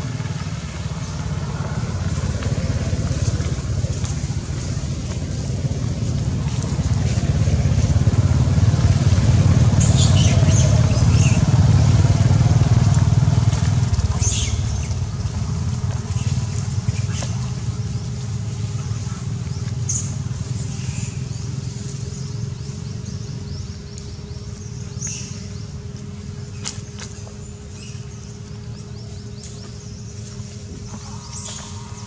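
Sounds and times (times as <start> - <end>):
faint steady hum: 0.0 - 32.0
vehicle engine rumble: 0.0 - 32.0.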